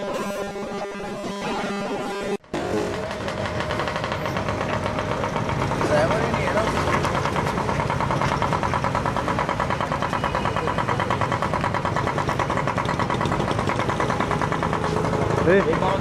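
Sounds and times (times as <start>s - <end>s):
vehicle engine idling: 2.7s - 16.0s.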